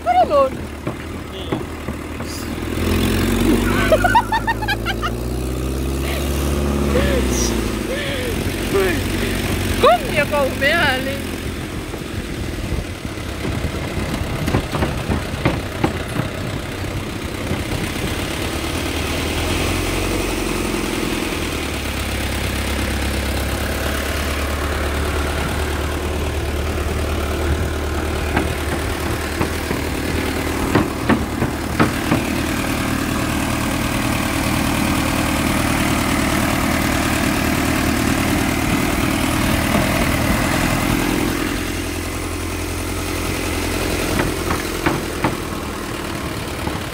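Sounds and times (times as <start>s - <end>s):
truck body rattling and knocking: 0.0s - 6.0s, 8.4s - 46.9s
truck engine running at low speed: 0.0s - 46.9s.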